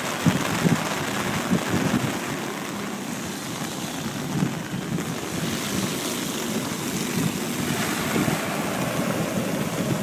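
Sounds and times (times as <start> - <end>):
water sloshing against car: 0.0 - 10.0
water spraying around car: 0.0 - 10.0.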